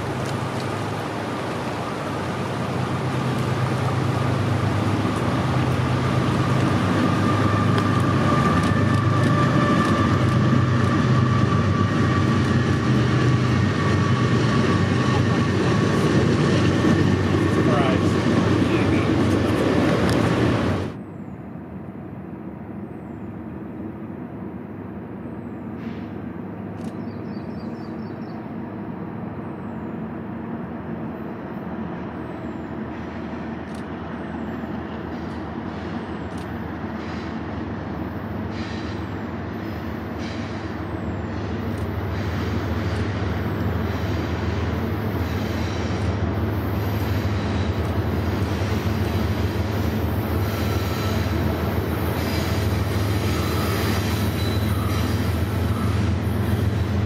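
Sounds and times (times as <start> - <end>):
diesel locomotive engine drone: 0.0 - 57.0
rushing train noise: 0.0 - 57.0.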